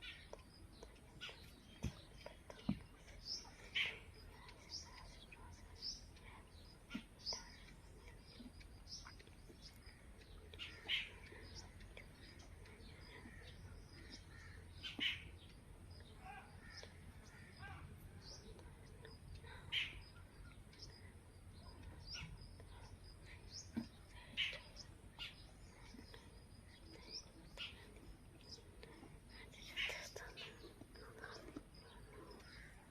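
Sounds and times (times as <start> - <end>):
birds calling: 0.0 - 32.9
faint bird chirps: 0.0 - 32.9.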